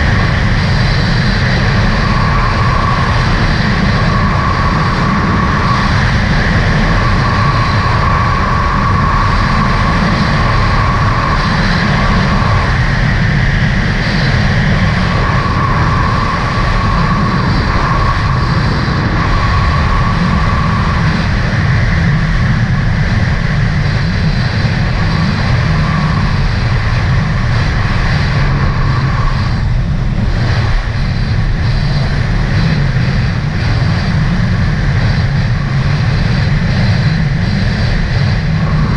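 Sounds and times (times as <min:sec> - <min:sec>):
high engine whine: 0:00.0 - 0:38.9.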